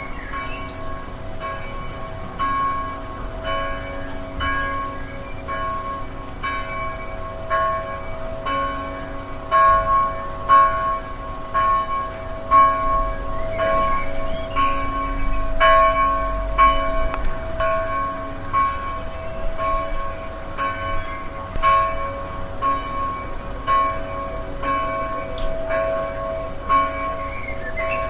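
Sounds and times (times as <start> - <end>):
church bells ringing: 0.0 - 28.0.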